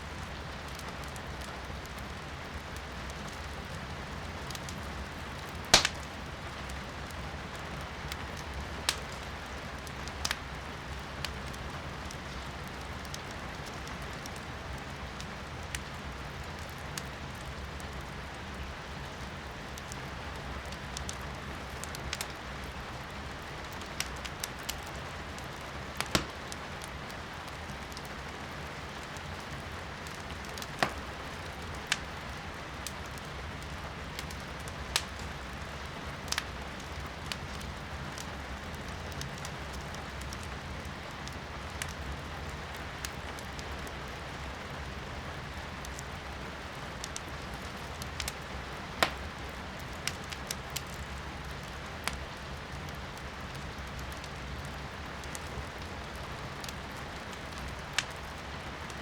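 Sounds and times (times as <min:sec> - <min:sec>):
rain hiss from indoors: 0:00.0 - 0:59.0
wood fire crackling and popping: 0:00.1 - 0:59.0.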